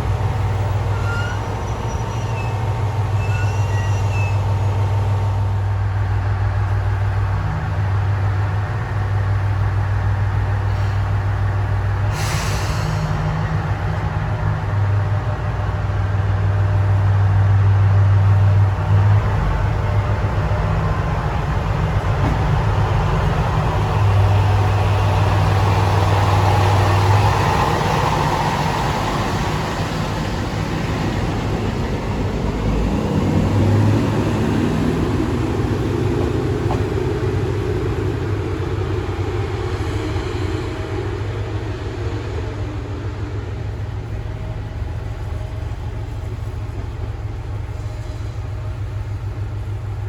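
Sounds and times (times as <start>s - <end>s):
diesel engine low hum: 0.0s - 50.0s.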